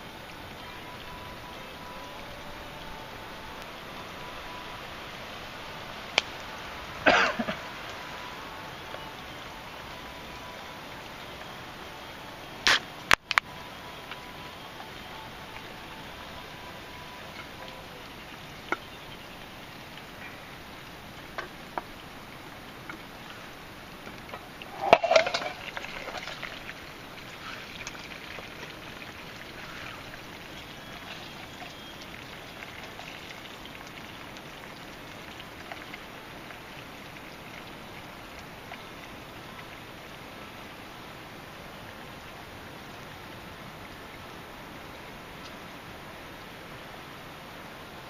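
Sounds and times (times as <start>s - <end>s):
campfire crackling and popping: 0.0s - 44.2s.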